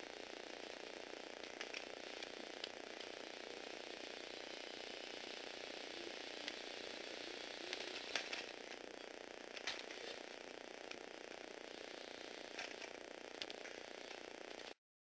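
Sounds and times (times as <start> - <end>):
small motors whirring: 0.0 - 14.8.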